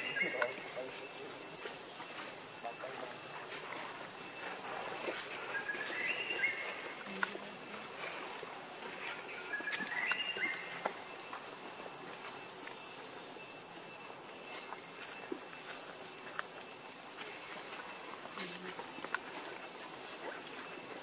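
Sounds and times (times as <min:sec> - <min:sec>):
forest insects droning: 0:00.0 - 0:21.0.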